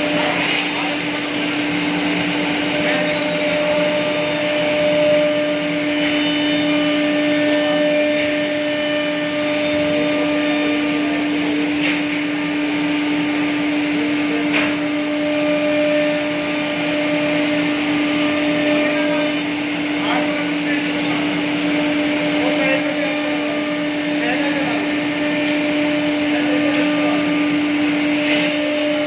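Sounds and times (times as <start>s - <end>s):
router spindle humming: 0.0s - 29.0s.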